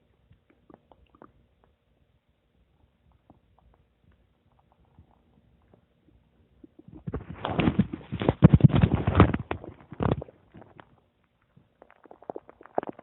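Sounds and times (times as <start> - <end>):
stomach gurgling: 0.0 - 13.0.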